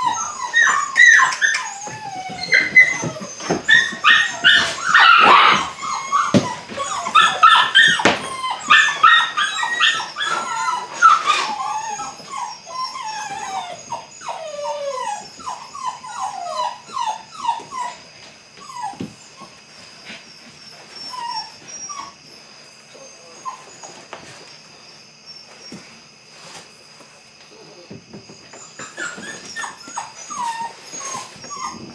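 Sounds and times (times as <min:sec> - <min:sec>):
puppies whining and whimpering: 0:00.0 - 0:31.9
puppies yipping and barking: 0:00.0 - 0:31.9.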